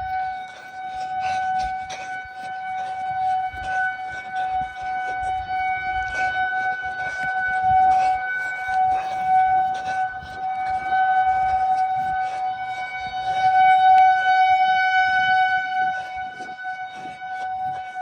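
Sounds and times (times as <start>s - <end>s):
outdoor warning siren steady tone: 0.0s - 18.0s.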